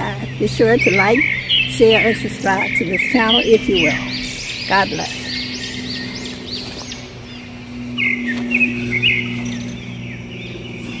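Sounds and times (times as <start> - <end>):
songbirds chirping: 0.0 - 11.0
steady low hum: 0.0 - 11.0.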